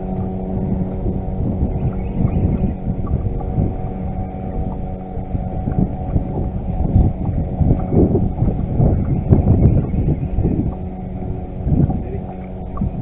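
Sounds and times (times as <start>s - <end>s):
electric trolling motor humming: 0.0s - 13.0s
wind buffeting microphone: 0.0s - 13.0s.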